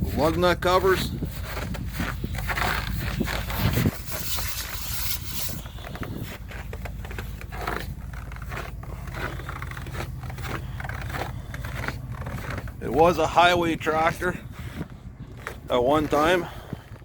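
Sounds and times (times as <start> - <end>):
footsteps: 0.0 - 17.0
steady low hum: 1.1 - 15.7.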